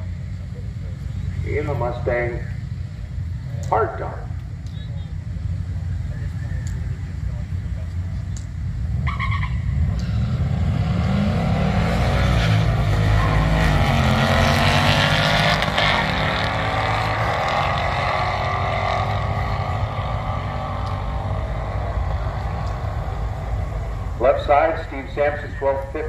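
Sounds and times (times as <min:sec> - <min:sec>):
cars racing at full throttle: 0:00.0 - 0:26.0.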